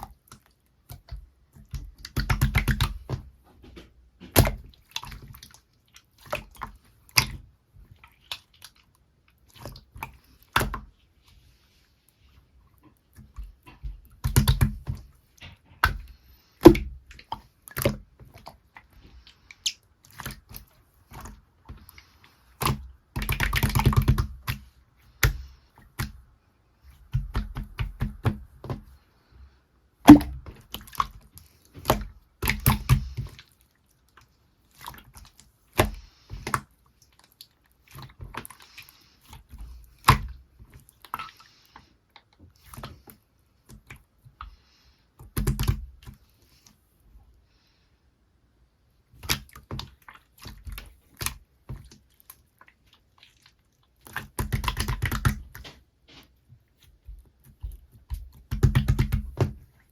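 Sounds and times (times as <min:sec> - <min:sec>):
slime squishing with sticky pops: 0:00.0 - 0:11.0, 0:12.8 - 0:29.0, 0:30.0 - 0:44.6, 0:45.2 - 0:46.6, 0:49.1 - 0:59.9.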